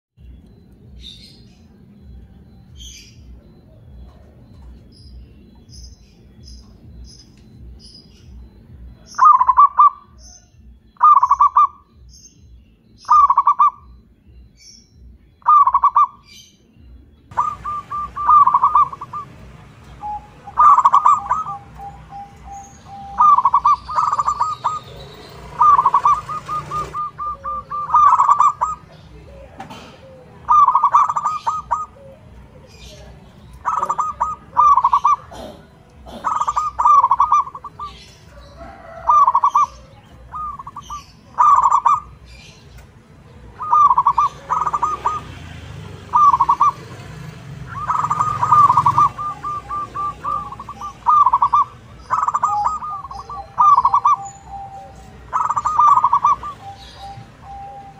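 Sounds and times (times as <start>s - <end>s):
dove cooing: 1.0s - 5.7s, 6.3s - 11.9s, 13.0s - 14.0s, 15.4s - 16.4s, 17.3s - 57.9s.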